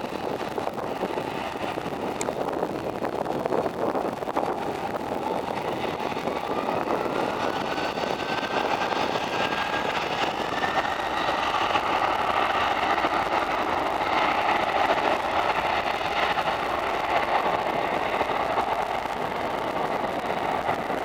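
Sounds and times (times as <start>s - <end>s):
jet engines spooling up: 0.0s - 21.0s.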